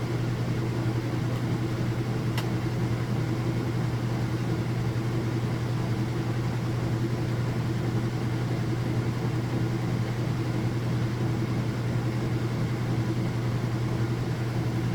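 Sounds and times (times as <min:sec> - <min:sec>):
washing machine spinning: 0:00.0 - 0:14.9.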